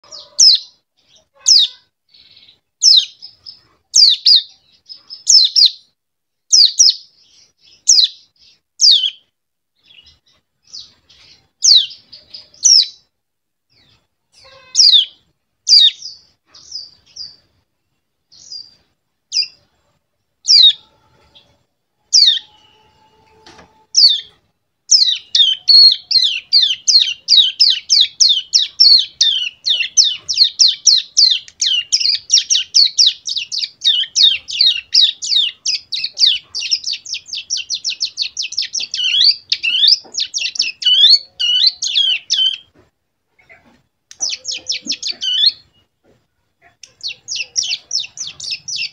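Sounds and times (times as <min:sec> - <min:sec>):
young bird chirping: 0:00.0 - 0:13.1, 0:13.7 - 0:17.5, 0:18.3 - 0:19.8, 0:20.4 - 0:42.8, 0:43.4 - 0:48.9.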